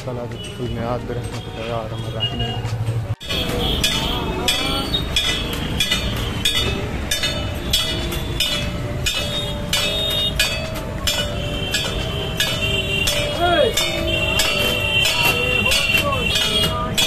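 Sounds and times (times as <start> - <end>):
street crowd din: 0.0 - 17.0
bells struck: 0.4 - 17.0.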